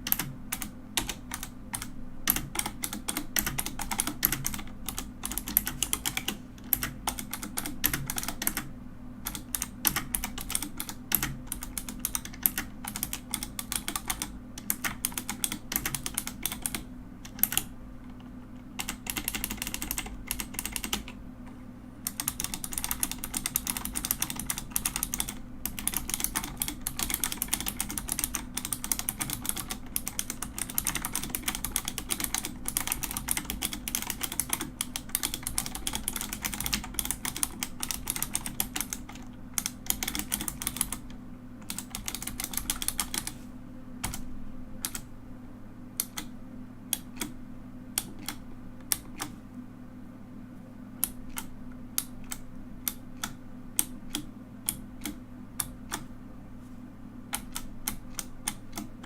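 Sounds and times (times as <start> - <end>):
mechanical keyboard typing: 0.0 - 21.2, 22.0 - 43.4, 44.0 - 45.1, 46.0 - 46.3, 46.9 - 47.4, 48.0 - 49.4, 51.0 - 56.1, 57.3 - 59.0.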